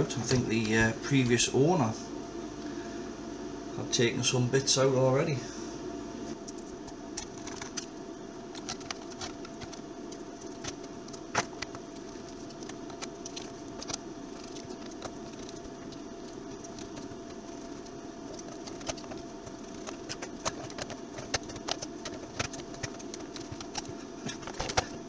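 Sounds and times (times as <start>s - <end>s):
background hum: 0.0s - 25.0s.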